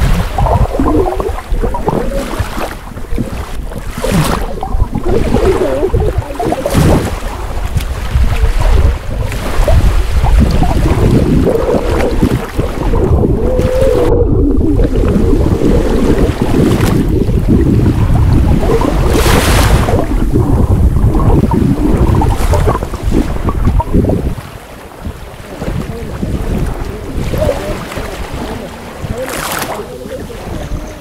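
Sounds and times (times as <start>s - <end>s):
muffled water sloshing underwater: 0.0s - 31.0s.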